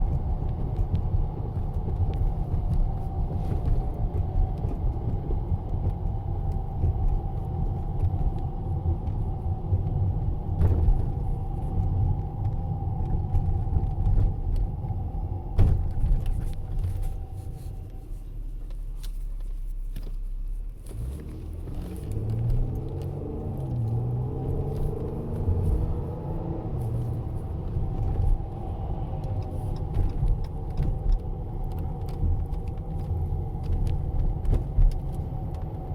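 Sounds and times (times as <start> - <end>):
road rumble: 0.0 - 35.9.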